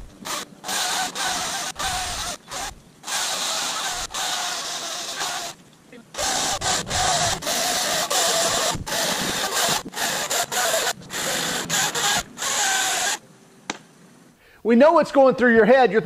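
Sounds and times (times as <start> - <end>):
chainsaw cutting through log: 0.0 - 13.2.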